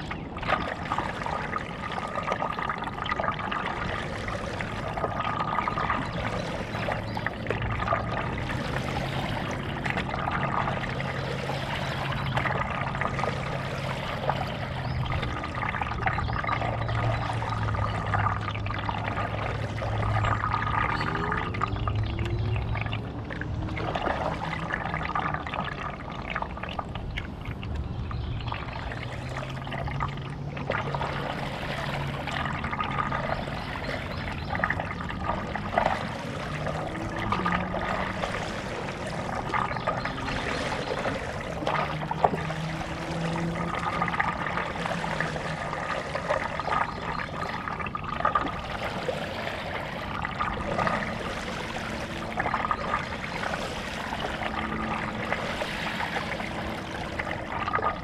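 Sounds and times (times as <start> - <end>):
paddle pulling through water: 0.0 - 58.0
water trickling and splashing: 0.0 - 58.0.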